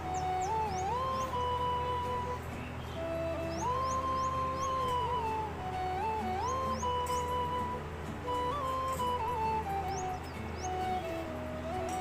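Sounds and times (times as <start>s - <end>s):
flute playing slow melody: 0.0s - 12.0s.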